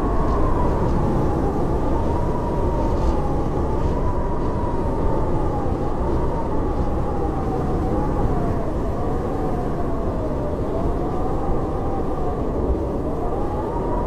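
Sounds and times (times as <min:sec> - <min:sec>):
howling blizzard wind: 0:00.0 - 0:14.0.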